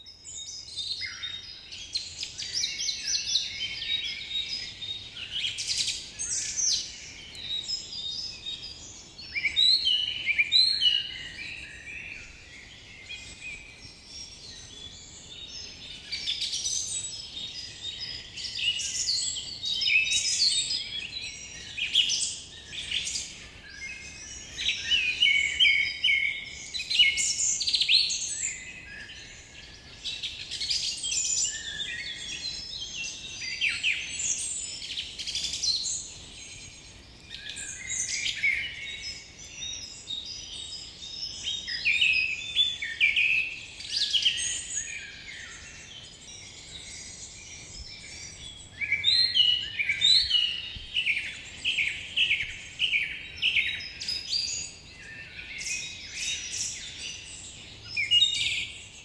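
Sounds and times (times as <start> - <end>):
birds singing and chirping: 0.0 - 59.0.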